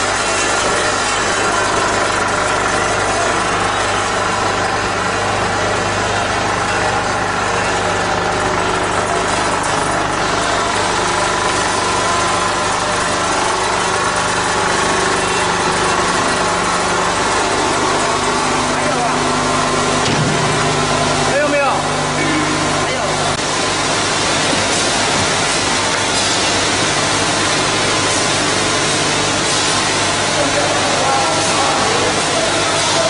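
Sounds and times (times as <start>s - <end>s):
conveyor belt machinery drone: 0.0s - 33.0s
motor humming: 0.0s - 33.0s.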